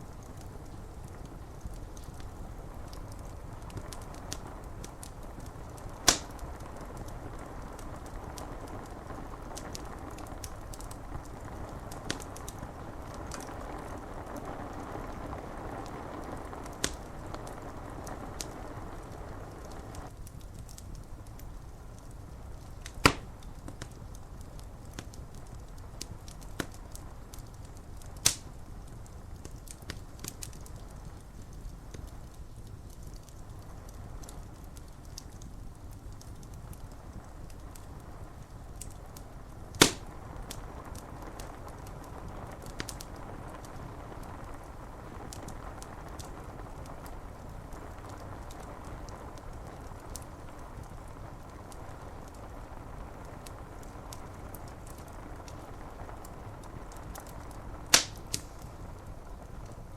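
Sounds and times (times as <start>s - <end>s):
rain on window glass: 0.0s - 59.9s
wood fire crackling and popping: 0.0s - 59.9s.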